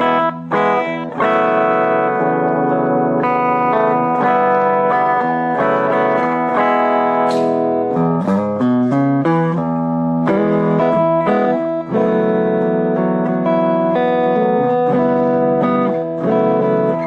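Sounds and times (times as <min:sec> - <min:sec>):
electric bass melodic line: 0:00.0 - 0:17.0.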